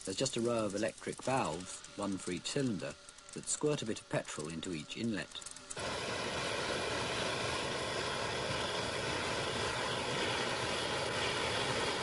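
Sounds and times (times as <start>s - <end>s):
burning fuel spray rushing: 0.0s - 12.0s.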